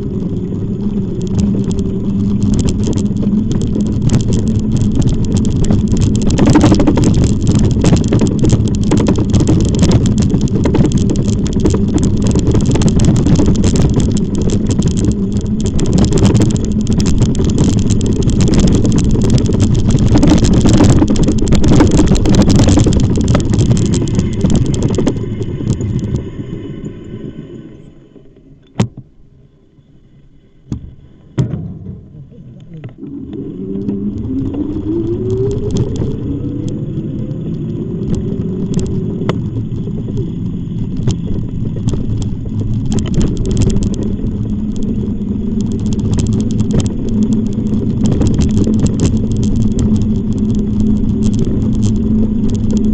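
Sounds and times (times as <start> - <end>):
wind buffeting microphone: 0.0 - 27.5, 31.5 - 52.9
bike rolling noise: 0.0 - 52.9.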